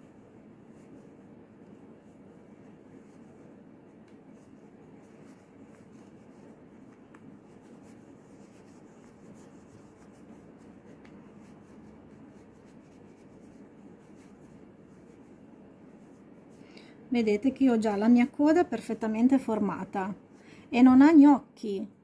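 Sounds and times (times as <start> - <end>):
fabric and wadding rustling: 0.0 - 21.4
low room hum: 0.0 - 22.0.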